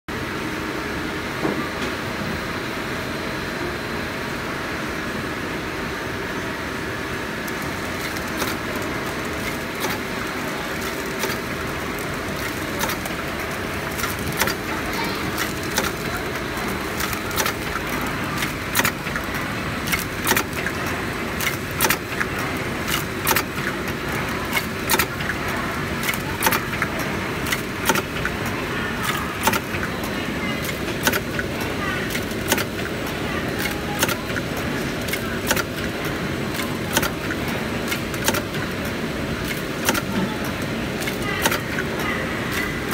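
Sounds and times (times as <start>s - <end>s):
whir of motors and rollers: 0.1s - 42.9s
sharp mechanical clicks: 7.5s - 42.9s.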